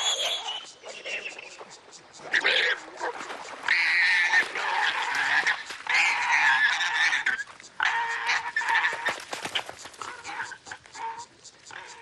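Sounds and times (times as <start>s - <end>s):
warthog squealing: 0.0s - 12.0s.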